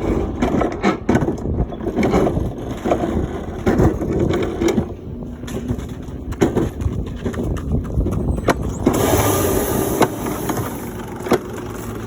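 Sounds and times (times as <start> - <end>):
coaster cart rattling on rail: 0.0 - 12.0.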